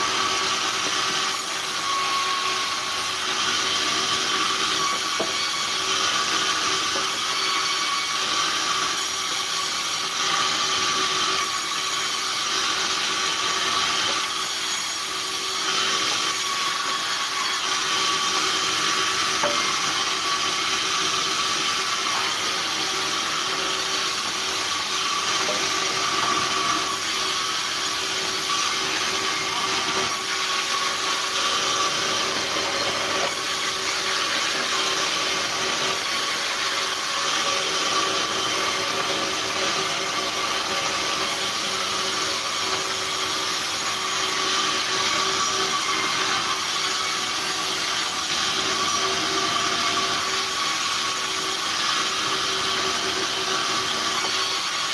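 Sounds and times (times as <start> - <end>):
band saw ripping boards: 0.0 - 54.9.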